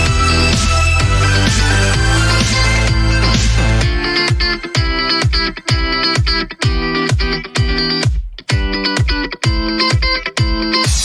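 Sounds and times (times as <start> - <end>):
deep drum beat: 0.0 - 11.0
strummed electric guitar chords: 0.0 - 11.0.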